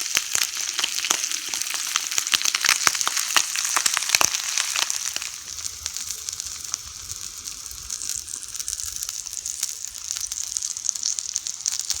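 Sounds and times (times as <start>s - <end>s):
bacon and eggs sizzling in pan: 0.0s - 12.0s.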